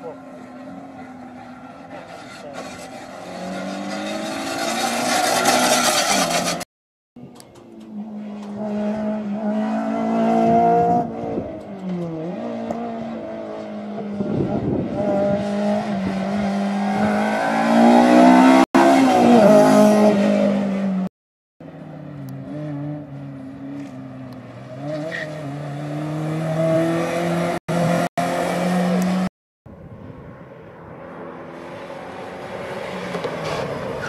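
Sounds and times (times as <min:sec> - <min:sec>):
car engines revving: 0:00.0 - 0:06.7, 0:07.3 - 0:29.3, 0:30.0 - 0:34.0.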